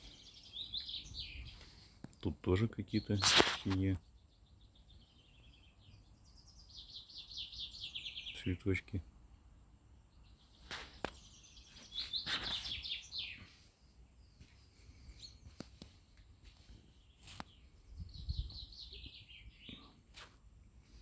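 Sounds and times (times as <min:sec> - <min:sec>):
small songbird singing: 0:00.0 - 0:20.3.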